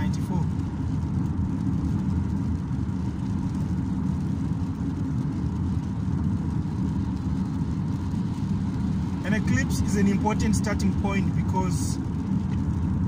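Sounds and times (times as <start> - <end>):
car interior road and engine rumble: 0.0 - 13.0.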